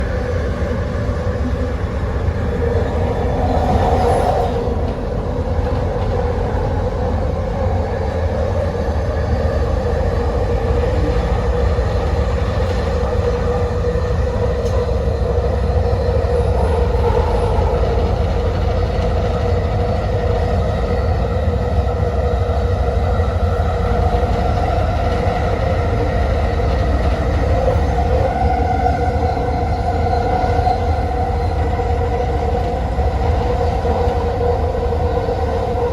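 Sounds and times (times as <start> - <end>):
train rumble and whine: 0.0 - 35.9.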